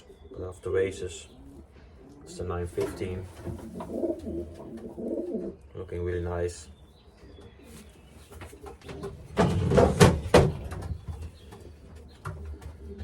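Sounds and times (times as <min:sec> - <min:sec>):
pigeons cooing: 0:00.0 - 0:06.1, 0:06.8 - 0:13.0.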